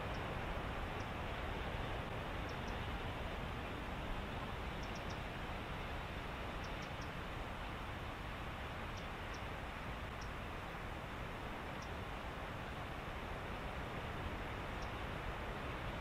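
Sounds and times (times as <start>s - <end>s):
rushing background hiss: 0.0s - 16.0s.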